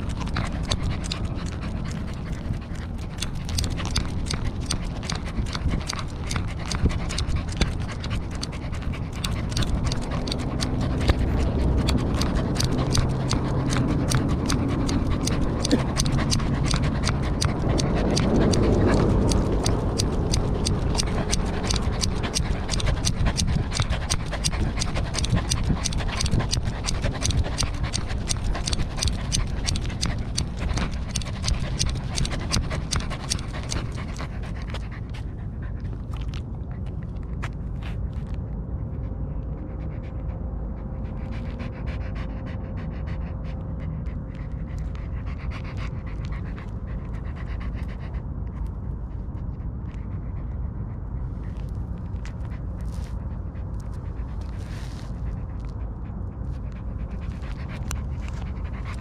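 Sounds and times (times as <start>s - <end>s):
dog panting: 0.0s - 59.0s.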